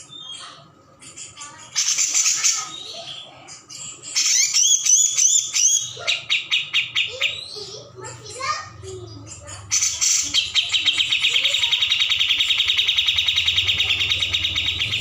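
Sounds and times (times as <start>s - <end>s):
bulbul singing: 1.1s - 15.0s.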